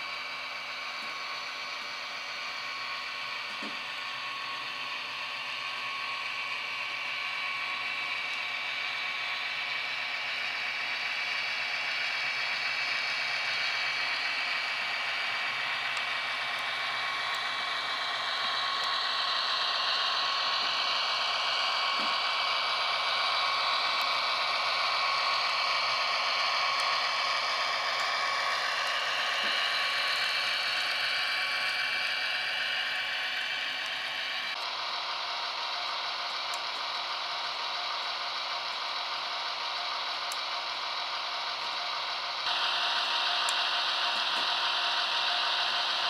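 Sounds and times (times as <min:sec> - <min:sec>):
high whine: 0:00.0 - 0:46.0
model train motor whirring: 0:00.0 - 0:46.0.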